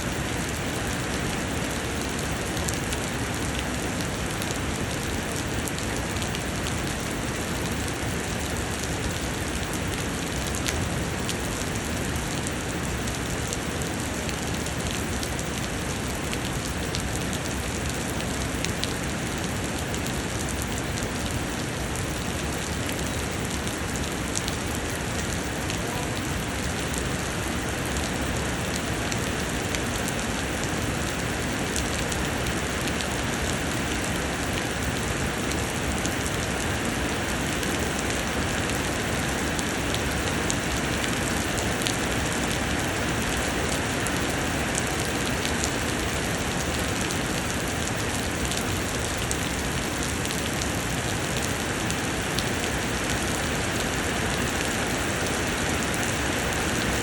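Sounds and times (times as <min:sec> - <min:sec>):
rain pouring: 0:00.0 - 0:57.0.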